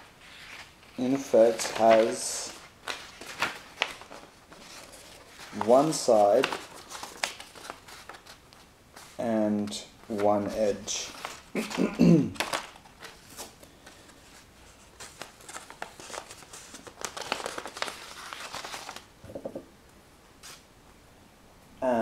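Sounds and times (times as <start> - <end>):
paper rustling and crinkling: 0.1 - 19.1.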